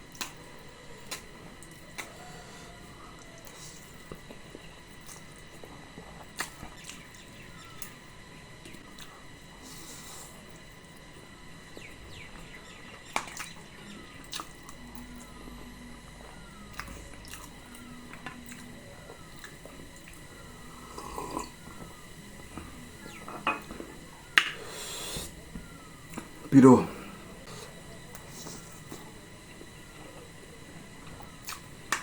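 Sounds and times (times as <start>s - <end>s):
chewing and wet mouth sounds: 0.0s - 24.5s, 27.4s - 32.0s.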